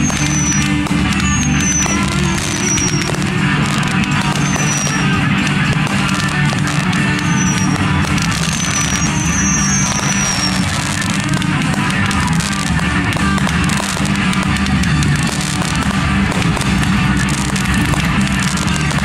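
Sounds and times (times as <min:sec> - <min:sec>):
firework crackling pops: 0:00.0 - 0:19.0
firework whistles: 0:00.0 - 0:19.0
rock music with guitar: 0:00.0 - 0:19.0.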